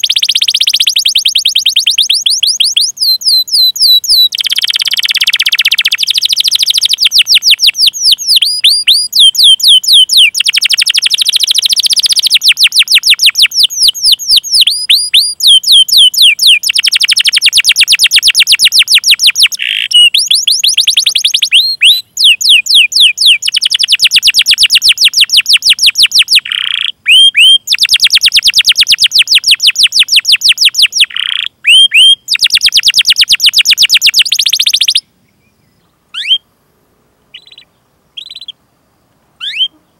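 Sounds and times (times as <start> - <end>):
canary chirps: 0.0 - 36.4, 37.3 - 38.6, 39.4 - 39.9
canary singing trills: 0.0 - 36.5, 37.3 - 38.6, 39.4 - 39.9.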